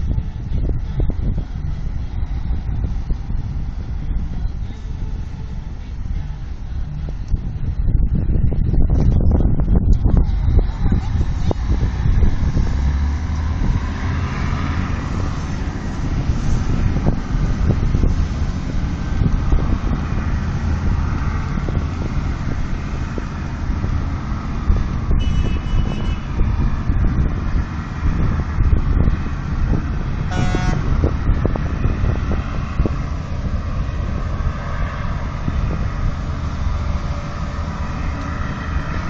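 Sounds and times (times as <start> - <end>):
diesel engine running: 0.0 - 39.0
wind buffeting microphone: 0.0 - 39.0.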